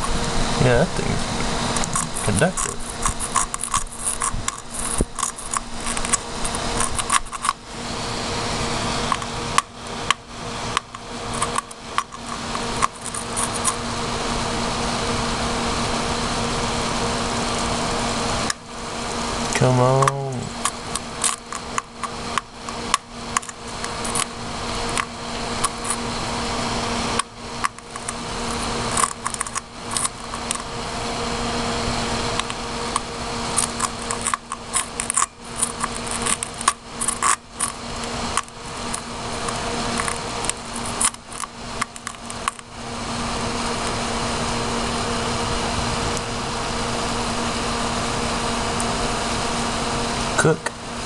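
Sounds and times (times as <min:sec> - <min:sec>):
electric arc crackling sizzle: 0:00.0 - 0:51.0
steady low hum: 0:00.0 - 0:51.0.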